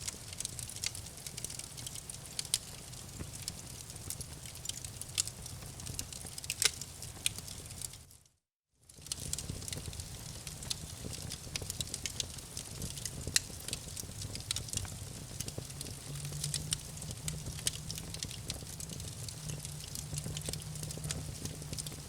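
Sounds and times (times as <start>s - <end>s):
campfire crackling and popping: 0.0s - 8.1s, 8.9s - 22.0s.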